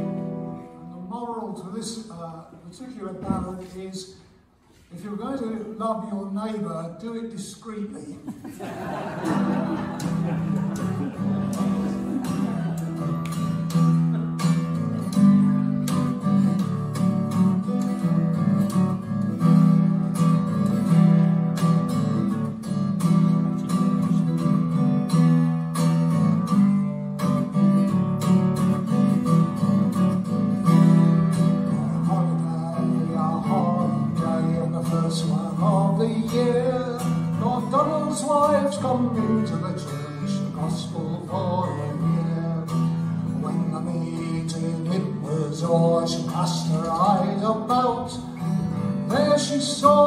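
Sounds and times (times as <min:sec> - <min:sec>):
acoustic guitar playing: 0:00.0 - 0:04.9, 0:08.3 - 0:50.0.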